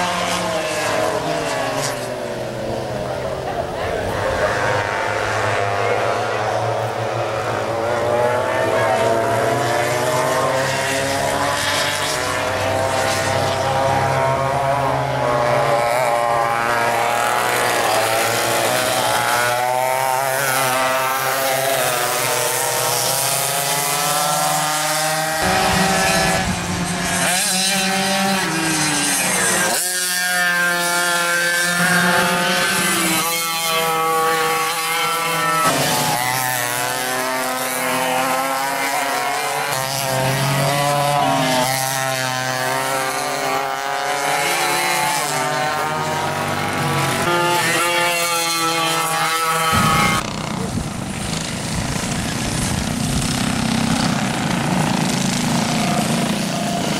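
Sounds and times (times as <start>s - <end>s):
go-kart engines racing: 0.0s - 56.9s.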